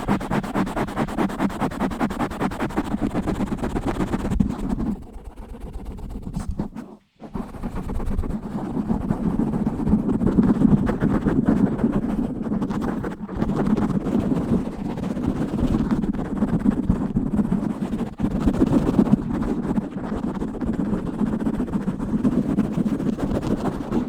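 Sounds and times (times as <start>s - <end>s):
scratching on a microphone: 0.0s - 24.0s.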